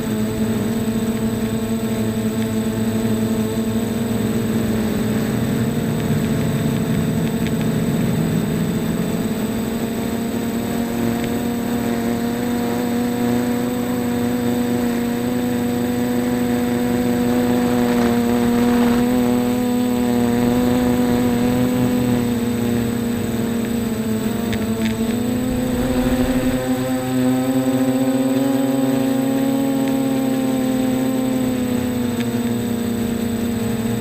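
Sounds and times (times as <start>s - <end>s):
quadcopter propellers whirring: 0.0s - 34.0s.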